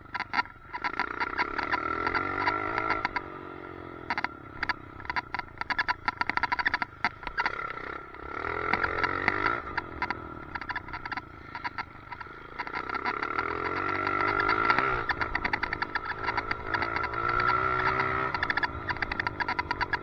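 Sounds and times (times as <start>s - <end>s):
helmet mount clicking rattle: 0.0s - 3.3s, 4.0s - 20.0s
motorcycle engine revving: 0.0s - 20.0s.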